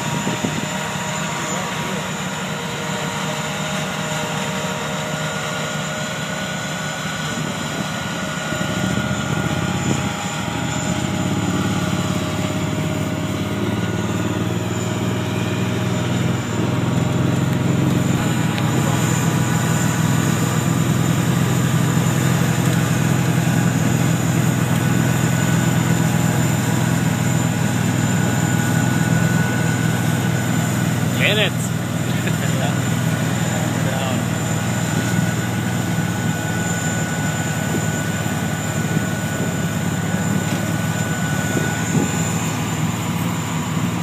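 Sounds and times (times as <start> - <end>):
steady engine drone: 0.0 - 44.0.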